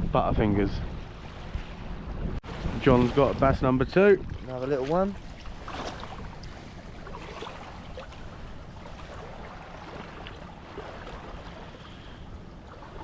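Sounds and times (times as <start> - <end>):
wind buffeting microphone: 0.0 - 13.0
water washing at shoreline: 0.1 - 13.0.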